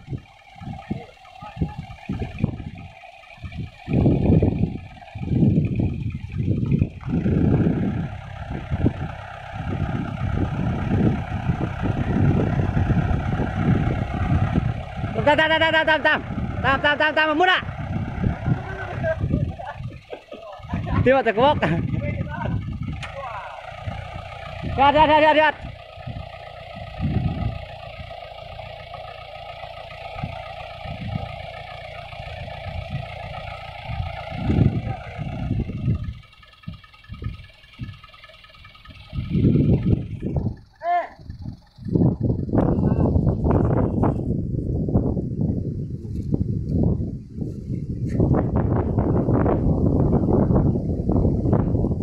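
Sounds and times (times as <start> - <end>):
low thumps: 0.0 - 45.5
truck engine running under load: 0.0 - 52.0.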